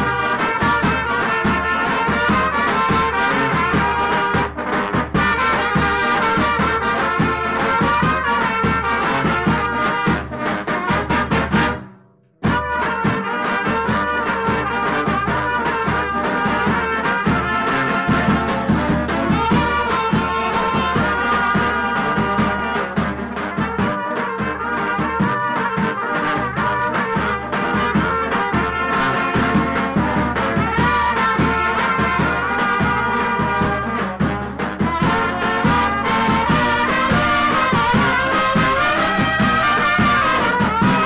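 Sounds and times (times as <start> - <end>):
brass band music: 0.0 - 41.0.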